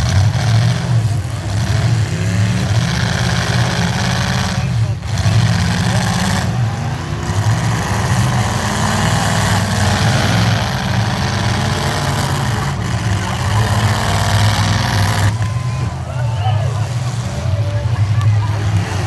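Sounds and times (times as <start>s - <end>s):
truck engines idling: 0.0s - 19.0s.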